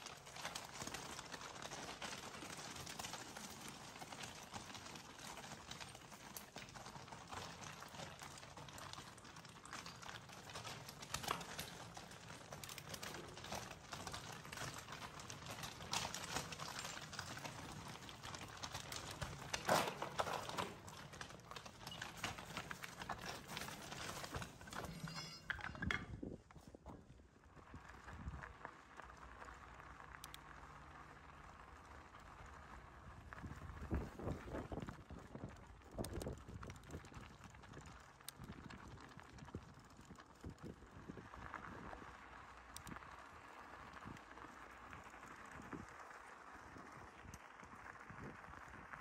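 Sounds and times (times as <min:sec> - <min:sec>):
gravel crunching: 0:00.0 - 0:49.0.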